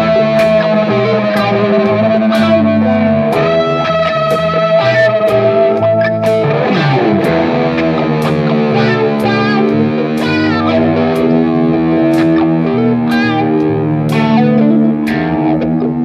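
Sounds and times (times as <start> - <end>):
distorted electric guitar: 0.0 - 16.0
steady low bass line: 0.0 - 16.0.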